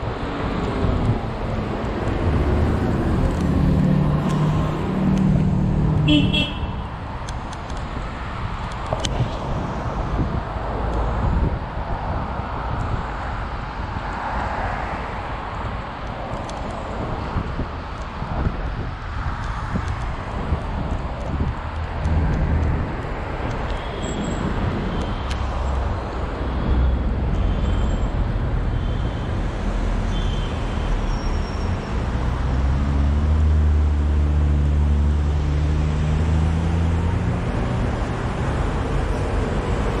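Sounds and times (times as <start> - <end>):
cars passing on street: 0.0 - 40.0
vehicle engine humming nearby: 0.0 - 40.0.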